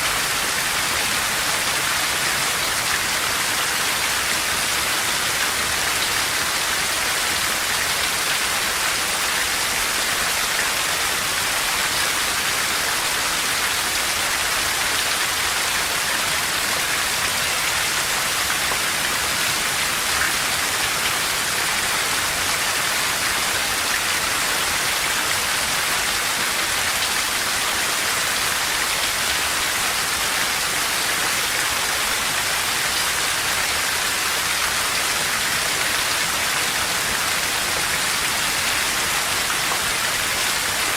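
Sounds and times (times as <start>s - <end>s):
heavy rain on forest vegetation: 0.0s - 40.9s.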